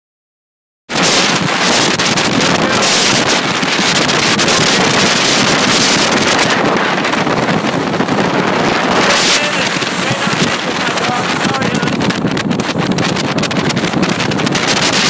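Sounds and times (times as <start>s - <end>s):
rush of a moving boat: 0.9s - 15.0s
wind buffeting the microphone: 0.9s - 15.0s.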